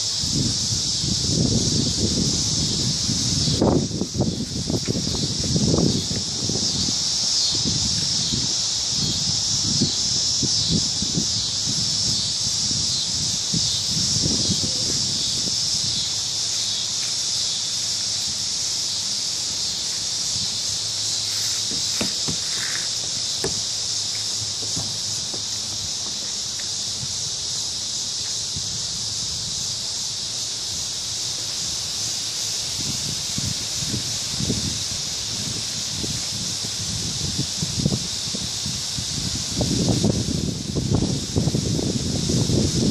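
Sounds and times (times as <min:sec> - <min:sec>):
crickets trilling: 0:00.0 - 0:42.9.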